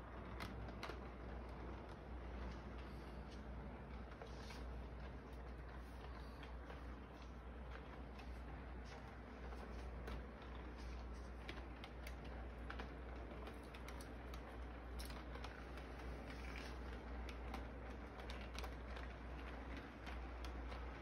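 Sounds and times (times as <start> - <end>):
model train wheels clicking: 0.0 - 21.0
steady low hum: 0.0 - 21.0.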